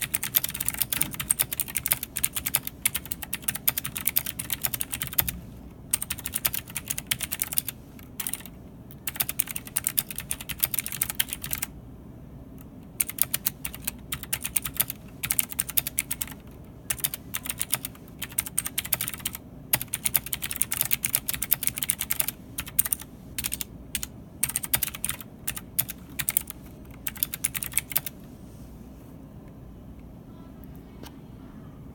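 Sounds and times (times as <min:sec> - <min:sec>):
mechanical keyboard typing: 0:00.0 - 0:11.7, 0:12.6 - 0:28.2.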